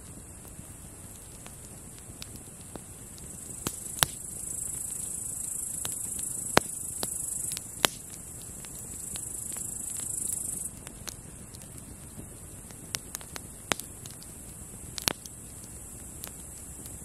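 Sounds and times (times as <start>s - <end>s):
campfire crackling and popping: 0.0s - 17.0s
grasshoppers chirring: 0.0s - 17.0s.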